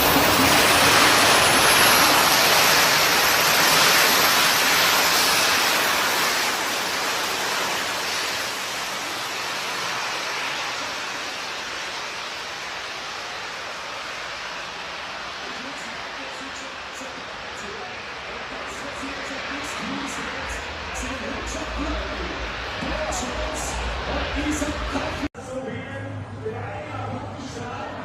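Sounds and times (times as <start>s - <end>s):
jet turbine engines roaring: 0.0s - 28.0s.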